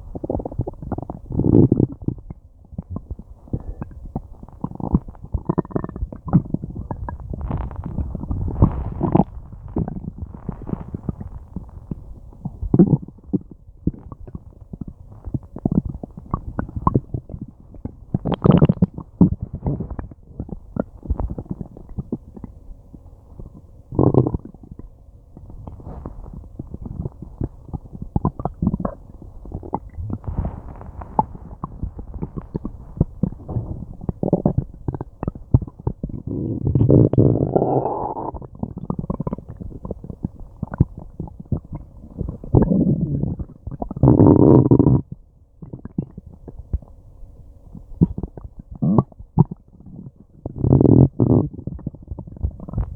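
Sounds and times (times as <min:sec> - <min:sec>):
stomach gurgling and rumbling: 0:00.0 - 0:52.9.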